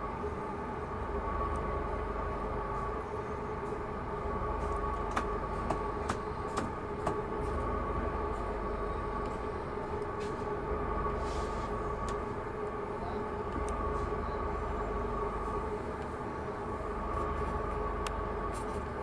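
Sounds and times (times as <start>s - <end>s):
train mechanical hum: 0.0s - 19.0s.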